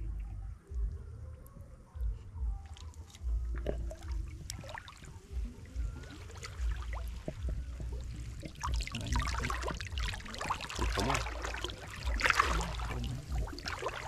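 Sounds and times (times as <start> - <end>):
pond water splashing: 2.6 - 14.0.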